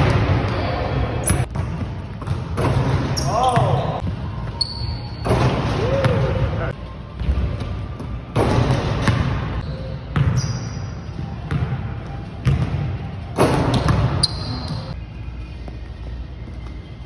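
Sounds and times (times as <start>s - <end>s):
sneaker squeaks: 0.4s - 1.6s, 2.2s - 5.7s, 7.1s - 17.0s.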